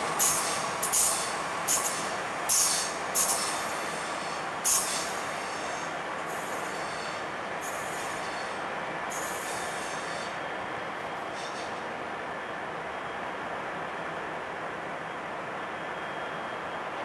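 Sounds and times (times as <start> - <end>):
train rumbling over track: 0.0 - 17.0.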